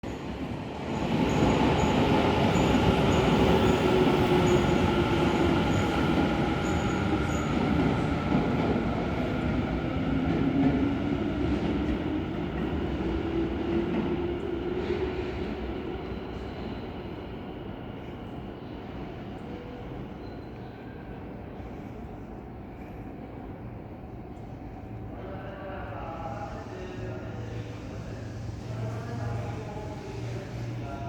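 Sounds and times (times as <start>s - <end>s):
electric train rolling slowly: 0.1s - 31.0s.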